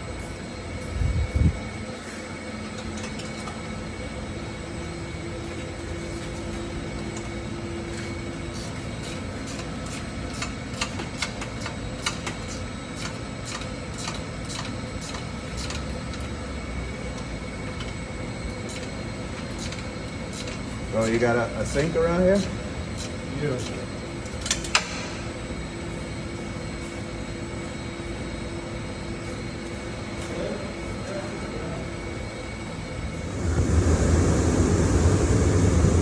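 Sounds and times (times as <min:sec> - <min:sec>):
workshop hum: 0:00.0 - 0:36.0.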